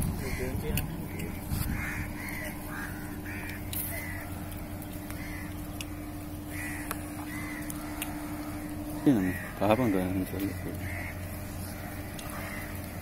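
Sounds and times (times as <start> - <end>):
birds calling: 0.0 - 13.0
steady low hum: 0.0 - 13.0.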